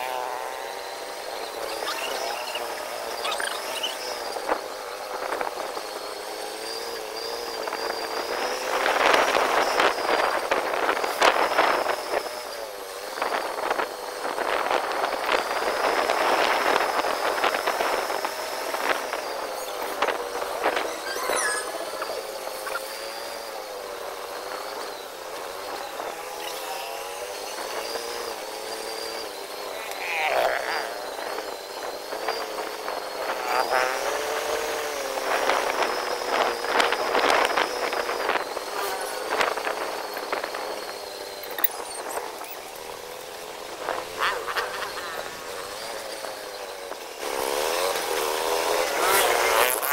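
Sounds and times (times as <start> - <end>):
motorcycle engine whining: 0.0 - 49.9.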